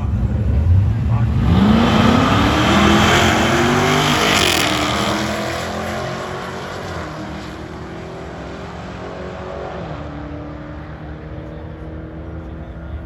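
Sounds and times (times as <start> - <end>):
drag racing car engine accelerating: 0.0 - 13.0.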